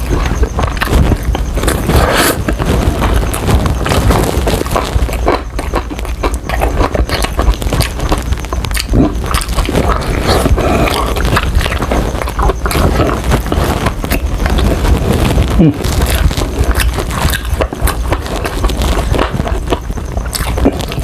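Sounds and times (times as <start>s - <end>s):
chewing crunchy chicken: 0.0s - 21.0s
mouth clicks: 0.0s - 21.0s.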